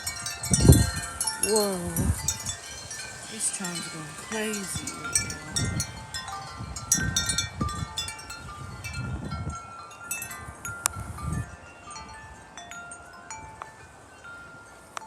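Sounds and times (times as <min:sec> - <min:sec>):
wind chimes ringing: 0:00.0 - 0:15.0
wind gusts on microphone: 0:00.0 - 0:15.0.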